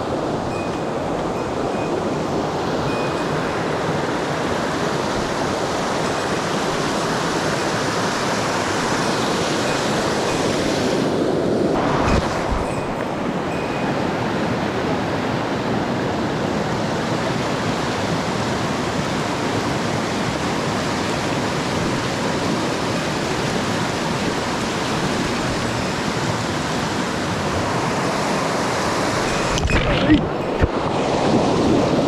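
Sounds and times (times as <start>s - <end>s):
rushing stream water: 0.0s - 32.0s.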